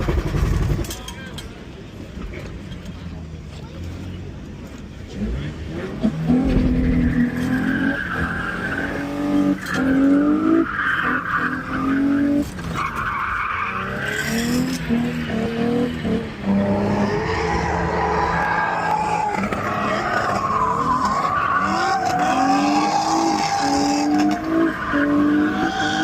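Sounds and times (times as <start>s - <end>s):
car engine revving: 3.8s - 26.0s
tires squealing: 5.1s - 26.0s.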